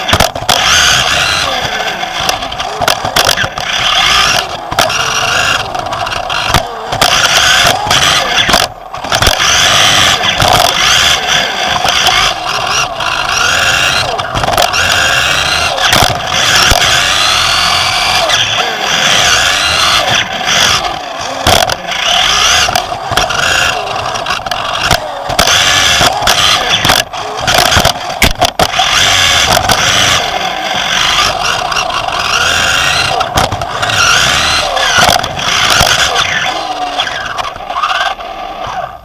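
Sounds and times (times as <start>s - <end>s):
chassis knocking on bumps: 0.0s - 1.4s, 2.2s - 18.7s, 19.6s - 30.2s, 31.0s - 36.2s
electric motor whine: 0.0s - 39.0s
tyres scrabbling on track: 0.0s - 39.0s.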